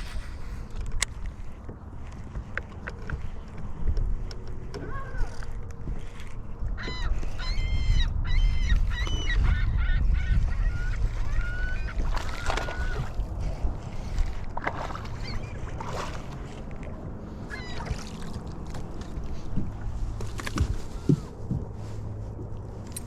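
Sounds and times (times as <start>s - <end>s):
low rumble of wind and water: 0.0s - 23.0s.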